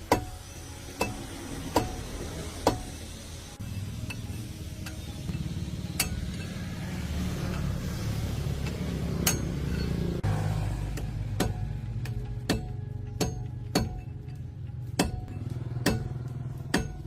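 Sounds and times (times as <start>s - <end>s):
low engine drone: 0.3s - 17.0s.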